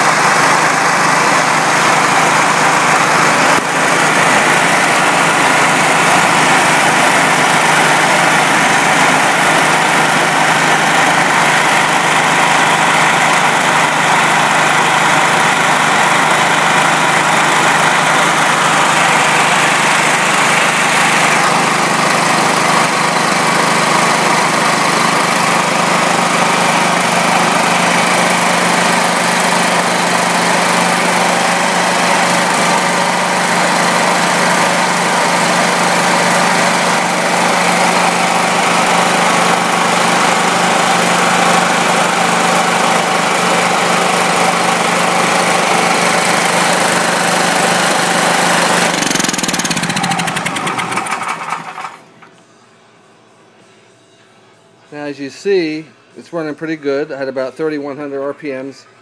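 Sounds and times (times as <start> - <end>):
portable generator engine running: 0.0 - 52.6.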